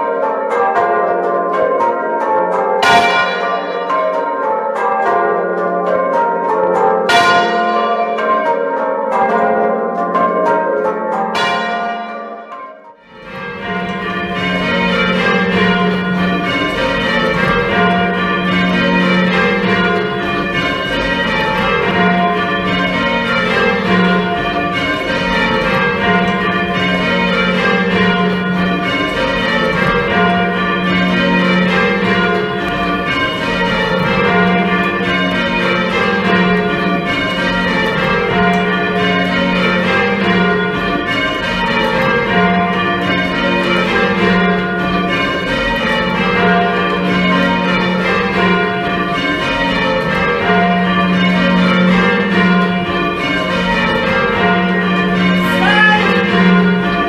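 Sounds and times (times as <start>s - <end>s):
muffled church bells ringing: 0.0s - 57.0s.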